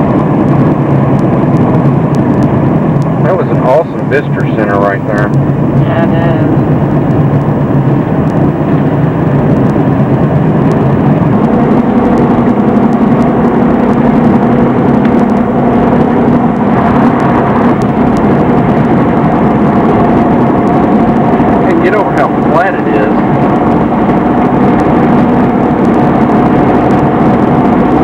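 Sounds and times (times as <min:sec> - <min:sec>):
low hum: 0:00.0 - 0:28.0
road noise inside moving car: 0:00.0 - 0:28.0.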